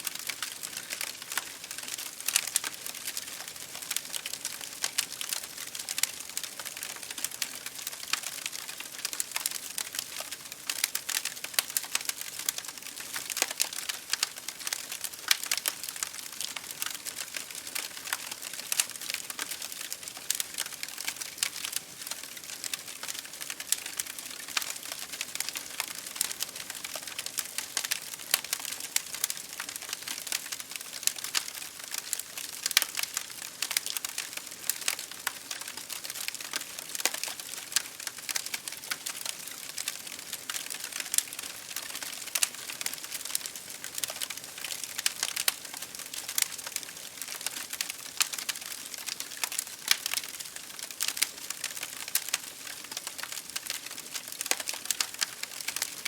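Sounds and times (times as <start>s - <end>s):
rain pattering on a window: 0.0s - 56.0s
wood fire crackling and popping: 0.0s - 56.0s.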